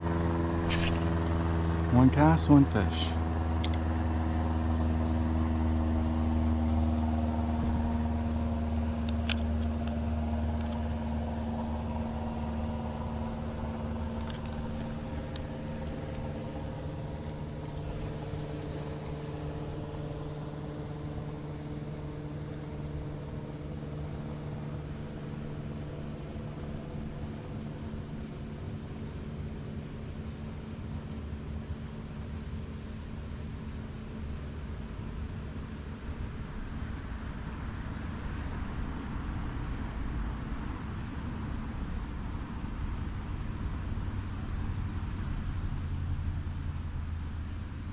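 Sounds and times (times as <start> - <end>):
low engine hum: 0.0 - 47.9.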